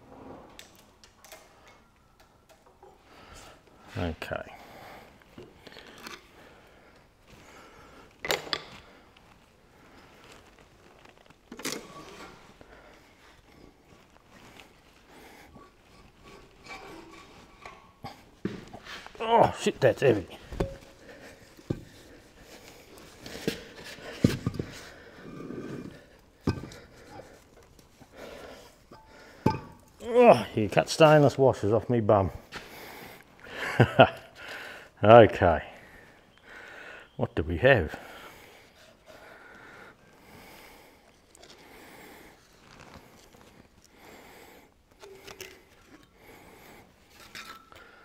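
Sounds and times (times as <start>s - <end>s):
man breathing slowly: 2.8s - 11.3s, 12.2s - 19.2s, 20.3s - 30.0s, 32.4s - 35.0s, 35.7s - 37.2s, 37.9s - 48.0s.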